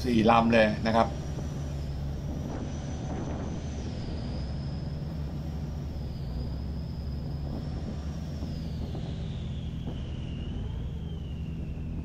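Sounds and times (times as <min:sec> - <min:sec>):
boat engine droning: 0:00.0 - 0:12.0
thin high whine: 0:00.0 - 0:12.0.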